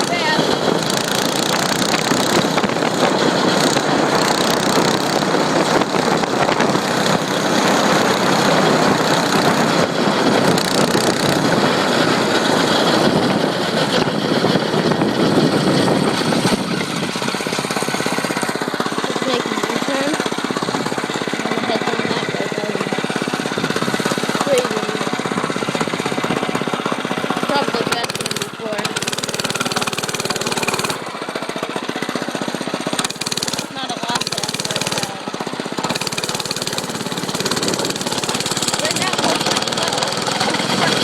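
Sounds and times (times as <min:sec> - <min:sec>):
dirt bike engine running hard: 0:00.0 - 0:41.0.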